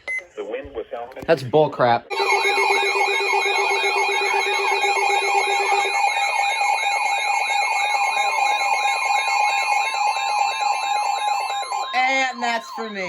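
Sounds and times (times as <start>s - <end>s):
steady electronic alarm tones: 2.1s - 13.0s
warbling electronic alarm tones: 2.1s - 13.0s.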